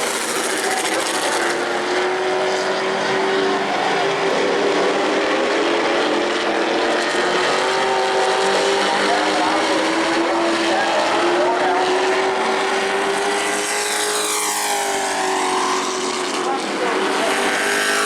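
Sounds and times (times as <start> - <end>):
racing truck engines droning: 0.0 - 18.0.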